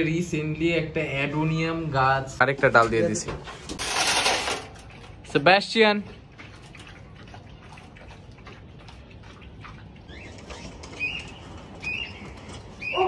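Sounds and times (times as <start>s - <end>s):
dog lapping from metal bowl: 2.5s - 13.0s.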